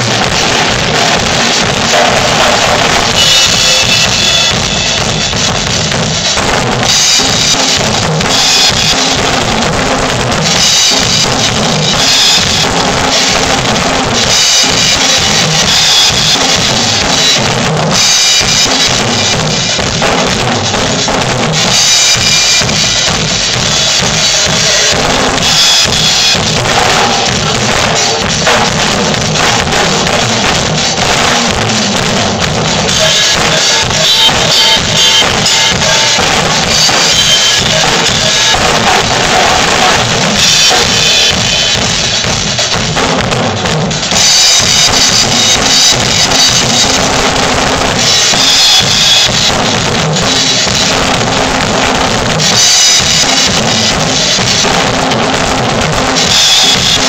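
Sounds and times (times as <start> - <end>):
cymbals ringing: 0.0 - 43.0, 43.9 - 55.0, 55.8 - 57.0
bass drum and snare beat: 0.0 - 57.0.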